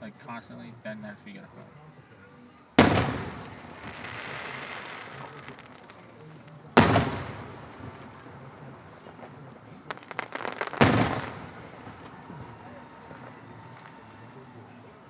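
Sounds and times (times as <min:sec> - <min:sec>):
crickets chirping: 0:00.0 - 0:15.0
fireworks crackling: 0:02.7 - 0:15.0
fireworks booming: 0:02.8 - 0:15.0.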